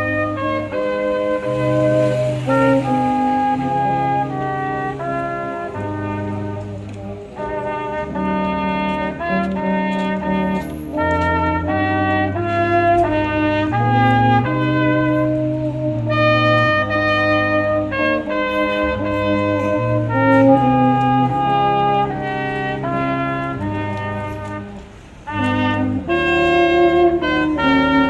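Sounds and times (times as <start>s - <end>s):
instrumental music with brass lead: 0.0s - 28.0s.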